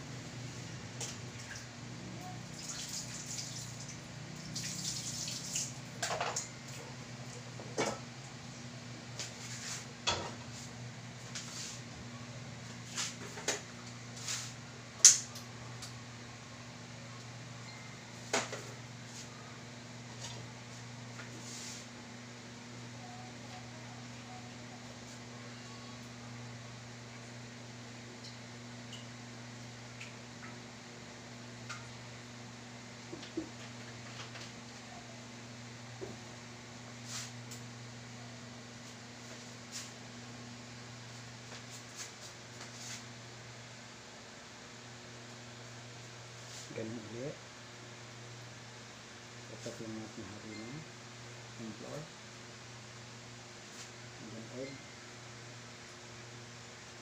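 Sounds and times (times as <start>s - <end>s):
steady low hum: 0.0s - 2.6s, 3.2s - 57.0s.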